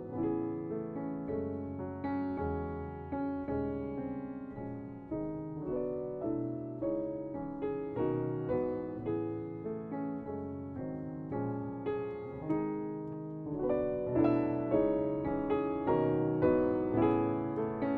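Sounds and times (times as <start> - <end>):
gentle piano music: 0.0 - 17.9.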